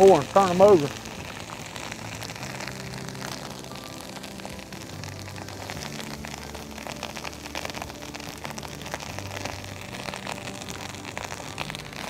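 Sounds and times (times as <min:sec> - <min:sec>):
roe sizzling in hot grease: 0:00.0 - 0:12.0.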